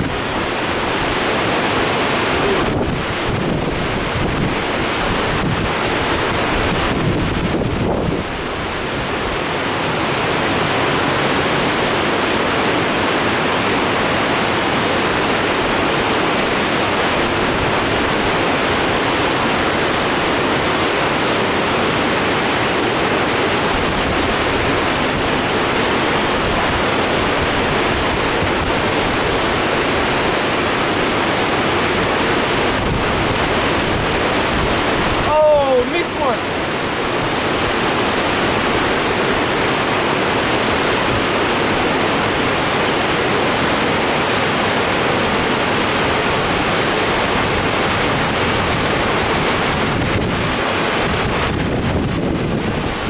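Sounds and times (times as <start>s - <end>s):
creek rushing over rapids: 0.0s - 53.0s.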